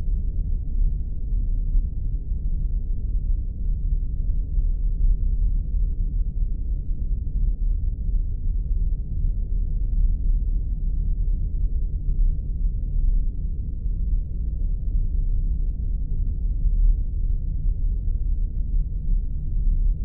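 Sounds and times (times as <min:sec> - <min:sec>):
deep spaceship rumble: 0:00.0 - 0:20.0.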